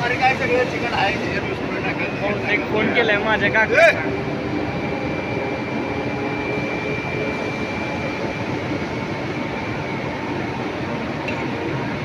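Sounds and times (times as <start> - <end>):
faint high whine: 0.0 - 12.0
machinery drone: 0.0 - 12.0.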